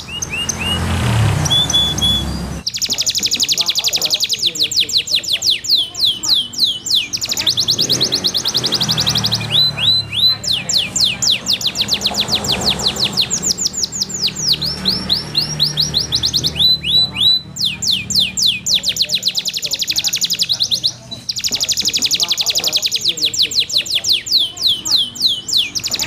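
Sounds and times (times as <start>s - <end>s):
canary singing trills: 0.0s - 26.0s.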